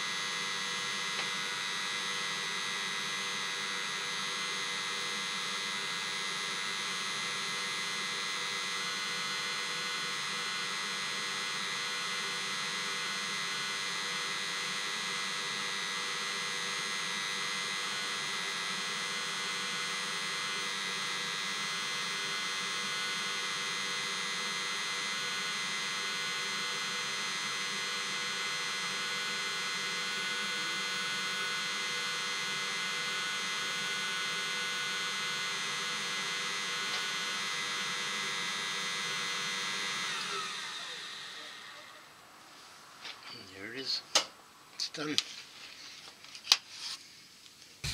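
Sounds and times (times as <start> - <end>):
heater blower whining: 0.0 - 43.8.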